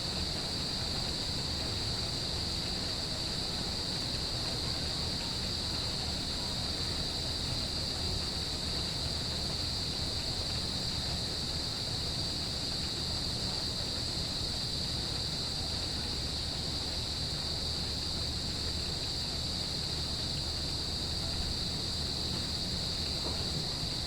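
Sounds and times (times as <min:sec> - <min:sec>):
crickets trilling: 0:00.0 - 0:24.0
rain hiss: 0:00.0 - 0:24.0.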